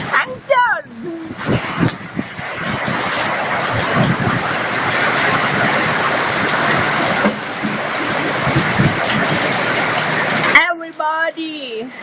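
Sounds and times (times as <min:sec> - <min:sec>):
raindrop impacts: 0:00.0 - 0:11.0
rain falling: 0:00.0 - 0:12.0.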